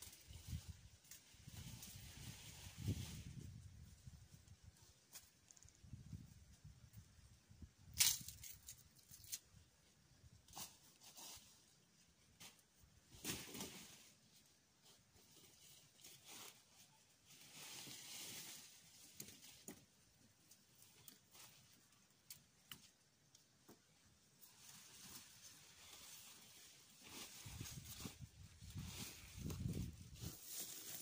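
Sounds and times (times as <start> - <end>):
leaves and stalks rustling: 0.0 - 7.3, 7.9 - 31.0.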